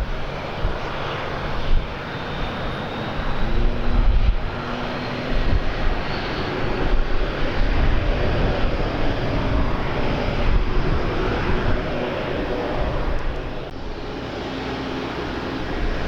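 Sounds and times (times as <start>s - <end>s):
airliner engine noise: 0.0s - 16.0s
wind rumbling on microphone: 0.0s - 16.0s.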